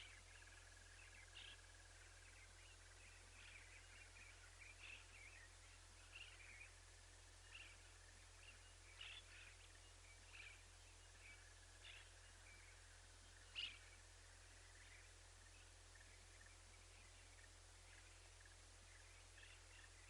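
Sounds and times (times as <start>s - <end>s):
faint bird chirps: 0.0s - 20.0s
steady low hum: 0.0s - 20.0s.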